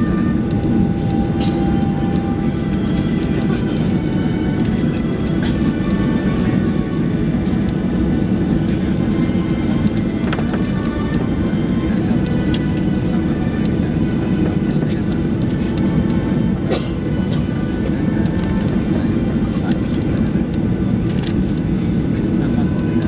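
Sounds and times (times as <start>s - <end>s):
faint high engine whine: 0.0s - 23.0s
jet cabin rumble: 0.0s - 23.0s.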